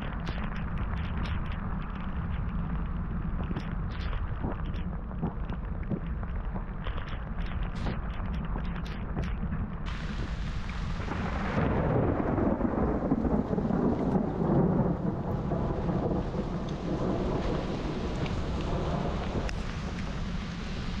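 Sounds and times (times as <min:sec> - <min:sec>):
heavy rain: 0:00.0 - 0:21.0
thunder rumbling: 0:00.0 - 0:21.0.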